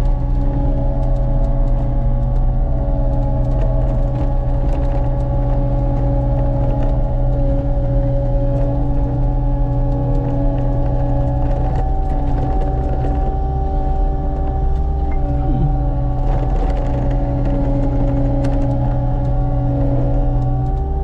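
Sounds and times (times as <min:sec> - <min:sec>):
mulching machine diesel engine: 0:00.0 - 0:21.0.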